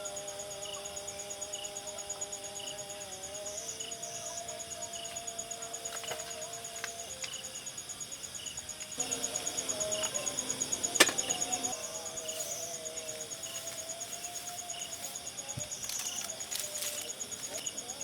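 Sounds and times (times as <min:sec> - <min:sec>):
insects pulsing trill: 0:00.0 - 0:18.0.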